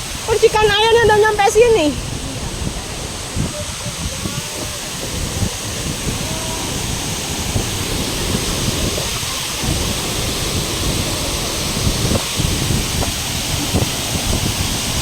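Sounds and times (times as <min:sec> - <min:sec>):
low rumbling: 0:00.0 - 0:15.0
waterfall rushing: 0:00.0 - 0:15.0.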